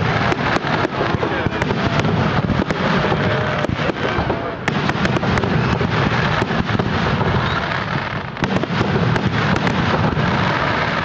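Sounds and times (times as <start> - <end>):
constant din: 0.0 - 11.0
fireworks bangs and crackles: 0.0 - 11.0.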